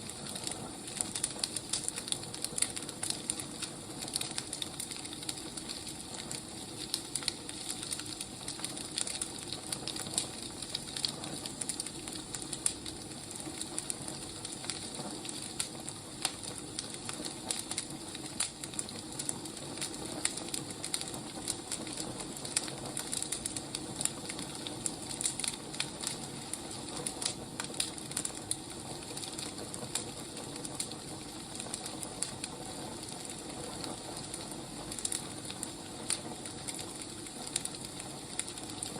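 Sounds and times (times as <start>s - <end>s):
firewood crackling and popping: 0.0s - 38.9s
soft fire hiss: 0.0s - 38.9s.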